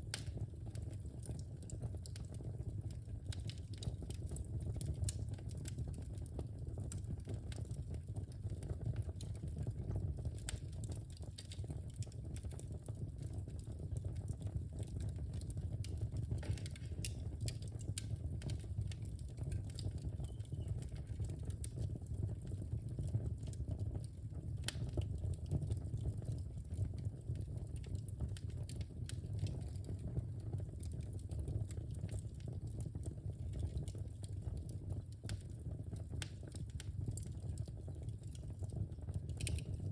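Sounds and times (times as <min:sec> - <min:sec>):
fire crackles and pops: 0:00.0 - 0:39.9
fire rumbling in fireplace: 0:00.0 - 0:39.9.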